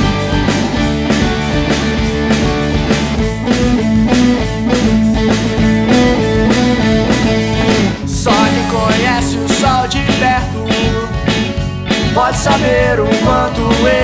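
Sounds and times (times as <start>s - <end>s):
drum kit beat: 0.0s - 14.0s
rock guitar: 0.0s - 14.0s.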